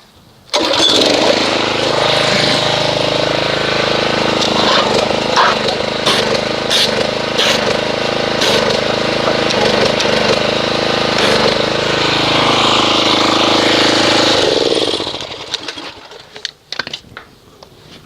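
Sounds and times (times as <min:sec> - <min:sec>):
pressure washer spraying foam: 0:00.6 - 0:15.5.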